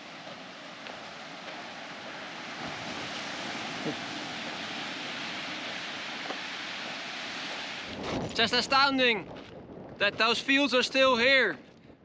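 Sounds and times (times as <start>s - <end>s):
ocean surf on rocks: 0.0s - 11.4s
wind: 0.0s - 12.0s.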